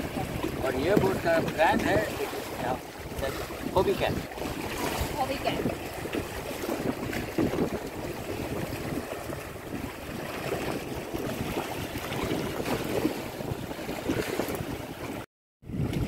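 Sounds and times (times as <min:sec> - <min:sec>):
water splashing along hull: 0:00.0 - 0:16.0
wind buffeting microphone: 0:00.0 - 0:16.0.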